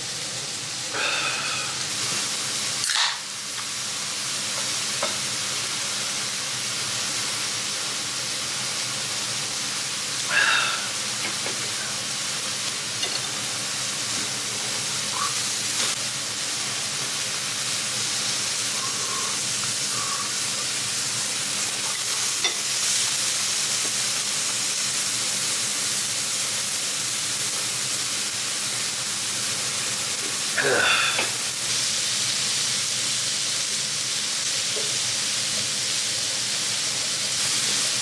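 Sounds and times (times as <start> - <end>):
meat sizzling on a griddle: 0.0 - 38.0.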